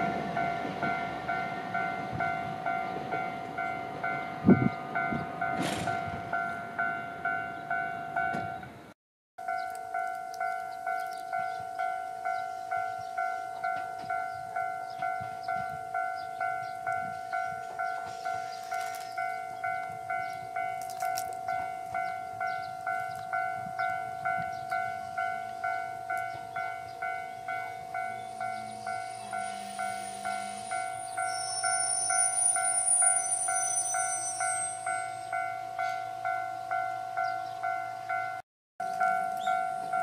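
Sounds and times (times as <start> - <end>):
level crossing warning bell: 0.0 - 8.8, 9.4 - 40.0.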